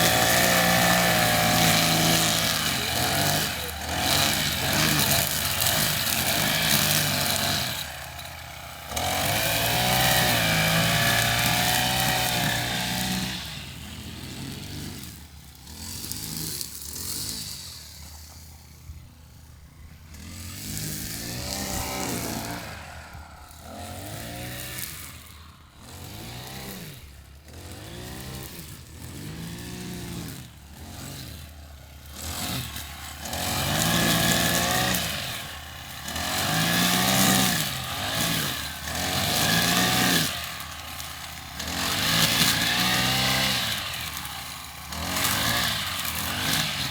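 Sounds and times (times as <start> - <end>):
lawnmower engine running: 0.0 - 46.9.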